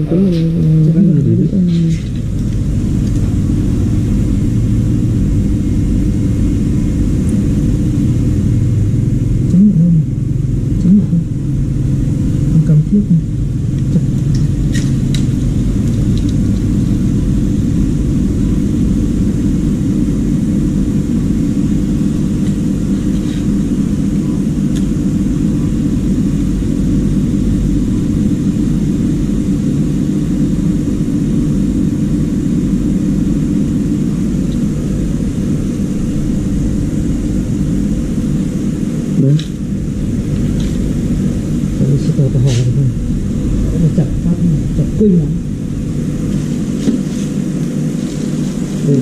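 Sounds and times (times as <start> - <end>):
faint hum: 0.0 - 49.0
steady low rumble: 0.0 - 49.0.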